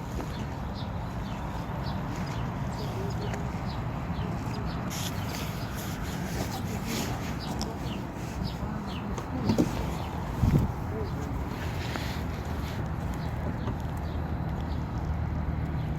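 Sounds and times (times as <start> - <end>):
steady low rumble: 0.0 - 13.4
small birds chirping: 0.0 - 15.9.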